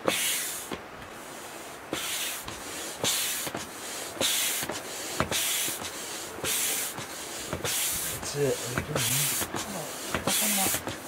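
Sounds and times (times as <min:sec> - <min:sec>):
hand air pump hissing: 0:00.0 - 0:11.0
faint pump clicks: 0:01.9 - 0:11.0.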